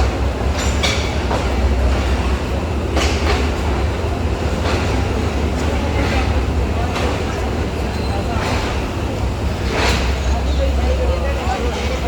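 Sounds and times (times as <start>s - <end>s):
train rumbling on track: 0.0s - 12.0s
wheels clacking over rail joints: 0.0s - 12.0s.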